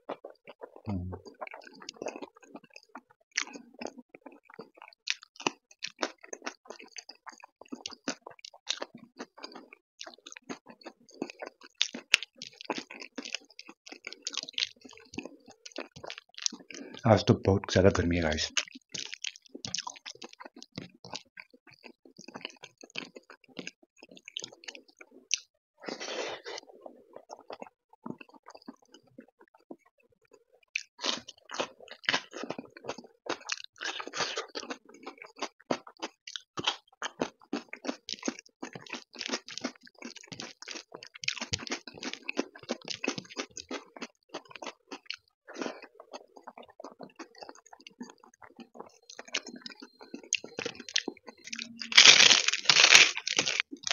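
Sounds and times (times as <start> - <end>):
crunchy chewing: 0.0 - 17.0, 18.5 - 53.9.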